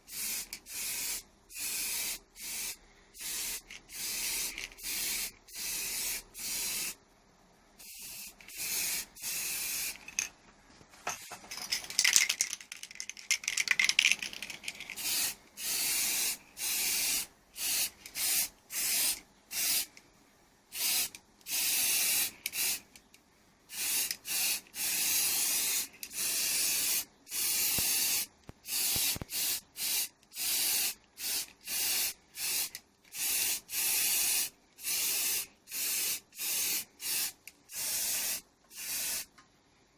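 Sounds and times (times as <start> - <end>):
pressurised spray hissing bursts: 0.0 - 7.0, 7.8 - 10.0, 14.9 - 19.9, 20.7 - 22.9, 23.7 - 39.3.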